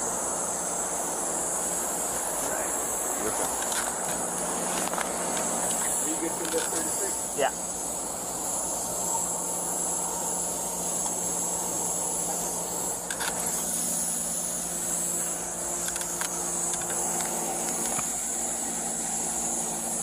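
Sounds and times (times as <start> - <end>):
high hiss: 0.0 - 20.0.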